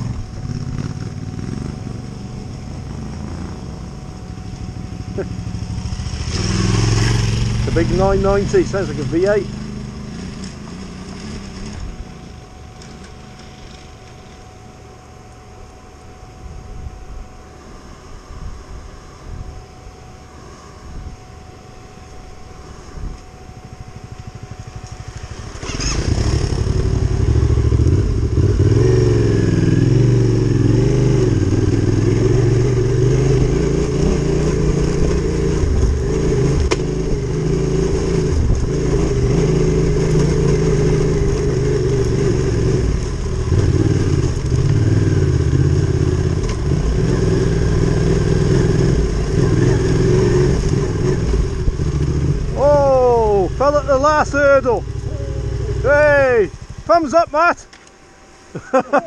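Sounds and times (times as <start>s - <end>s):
motorcycle engine revving: 0.0s - 14.5s, 23.5s - 57.7s.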